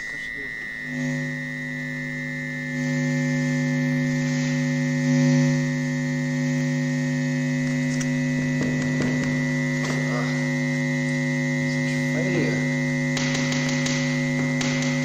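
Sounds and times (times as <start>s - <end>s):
steady electronic drone: 0.0s - 15.0s.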